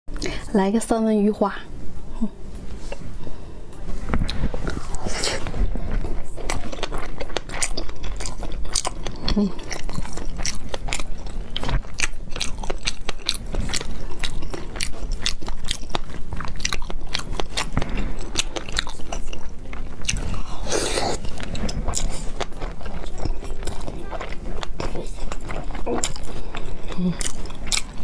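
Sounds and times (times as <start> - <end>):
wet chewing mouth clicks: 4.2 - 28.0.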